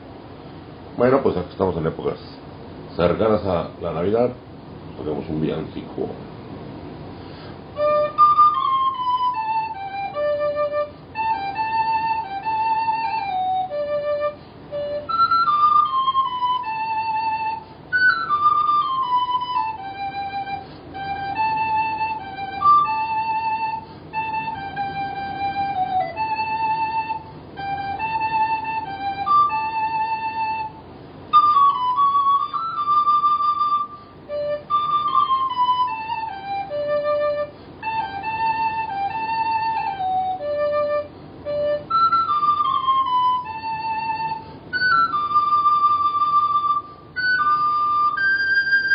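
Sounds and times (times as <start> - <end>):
recorder playing carol melody: 7.7 - 48.9.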